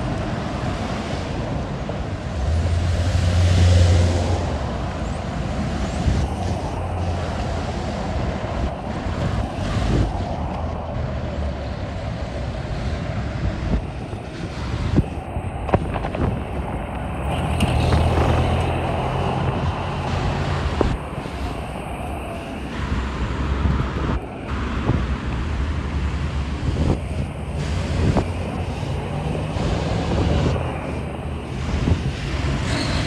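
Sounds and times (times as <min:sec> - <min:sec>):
passing traffic: 0:00.0 - 0:33.0
wind buffeting microphone: 0:00.0 - 0:33.0.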